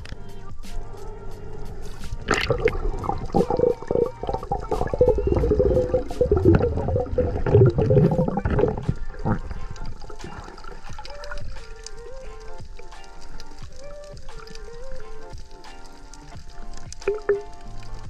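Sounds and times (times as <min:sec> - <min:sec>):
sea water rushing and gurgling: 0:00.0 - 0:18.0.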